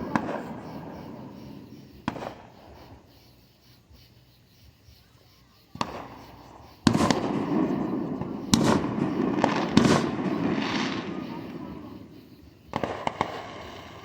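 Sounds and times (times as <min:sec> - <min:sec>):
fireworks bangs: 0:00.0 - 0:03.0, 0:05.7 - 0:14.0.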